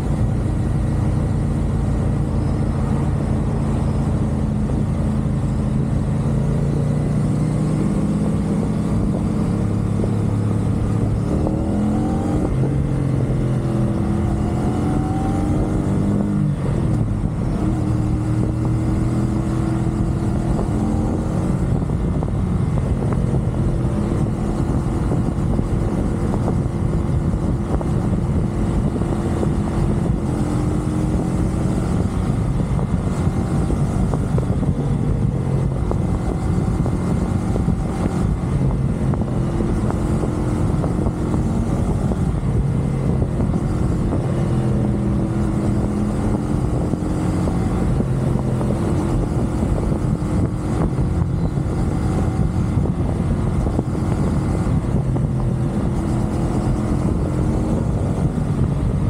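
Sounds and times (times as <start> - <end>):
motorcycle engine droning: 0.0 - 59.0
road and wind rumble: 0.0 - 59.0.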